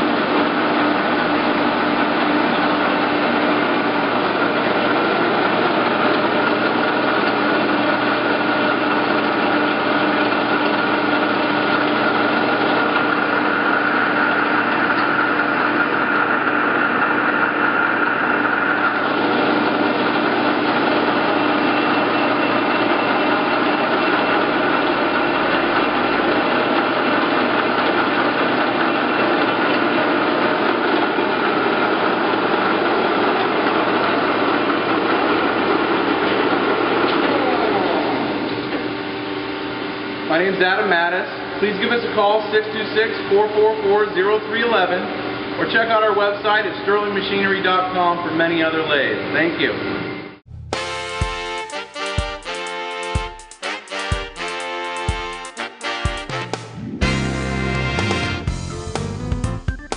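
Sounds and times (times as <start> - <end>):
lathe running with whine and hum: 0.0 - 50.5.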